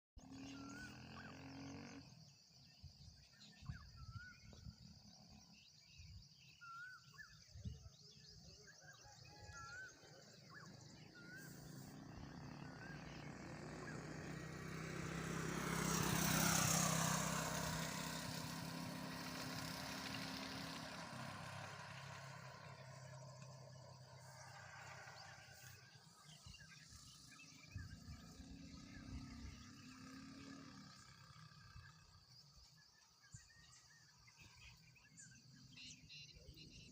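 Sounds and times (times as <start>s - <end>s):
vehicle passing by: 0.2s - 2.8s, 8.2s - 36.9s.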